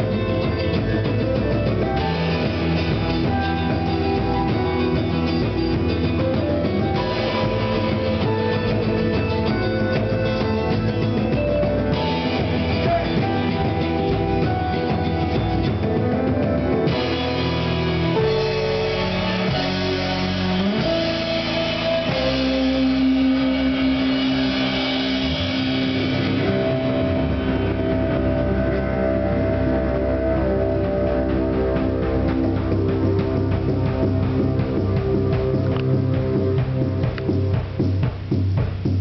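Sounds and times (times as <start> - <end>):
bass guitar: 0.0 - 39.0
drum kit with cymbals: 0.0 - 39.0
electric guitar: 0.0 - 39.0
keyboard: 0.0 - 39.0.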